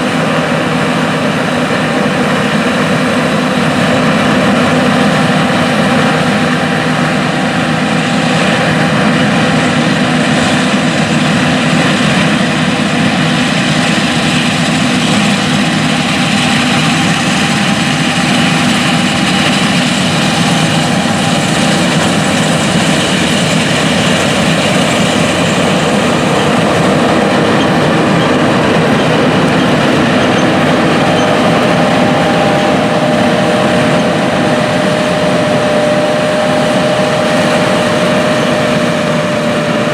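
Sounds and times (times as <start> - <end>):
diesel engine drone: 0.0 - 39.9
mechanical whine: 0.0 - 39.9
whining tone: 0.0 - 39.9.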